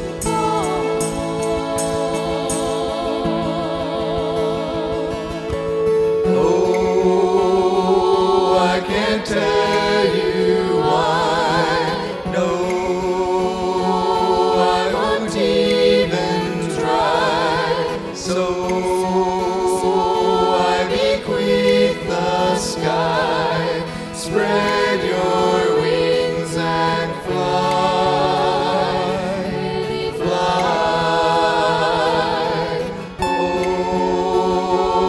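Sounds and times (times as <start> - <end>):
choir-like sung notes: 0.0 - 35.0
steady musical accompaniment: 0.0 - 35.0.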